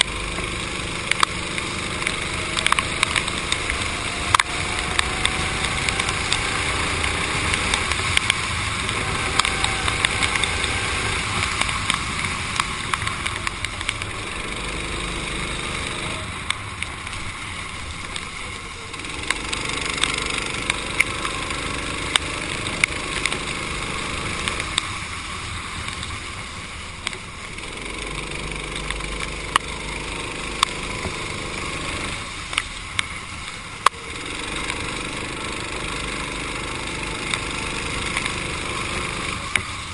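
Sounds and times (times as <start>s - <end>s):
sharp clicks: 0.0s - 17.2s, 18.9s - 24.9s, 27.0s - 33.1s, 33.8s - 39.8s
kart engine revving: 0.0s - 39.9s
tyres hissing on wet asphalt: 0.0s - 39.9s.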